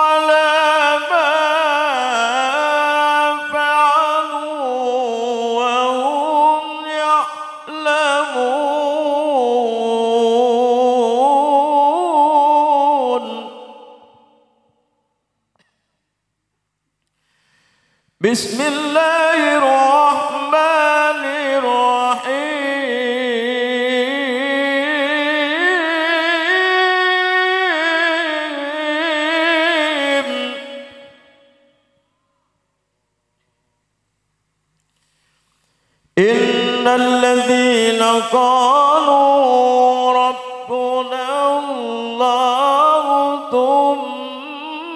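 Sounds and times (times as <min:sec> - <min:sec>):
man chanting melodically: 0:00.0 - 0:14.4, 0:18.2 - 0:31.8, 0:36.2 - 0:44.9.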